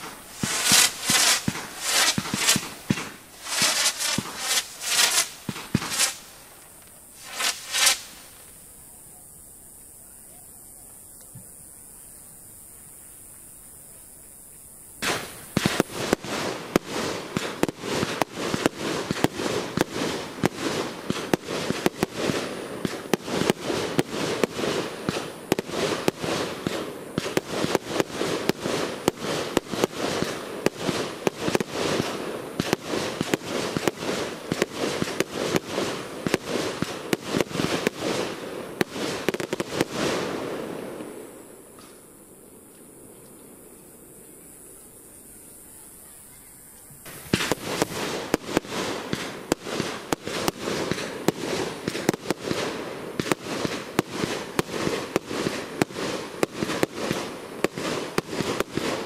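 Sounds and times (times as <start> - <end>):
fireworks banging: 0.0 - 8.8, 15.0 - 42.9, 46.8 - 59.0.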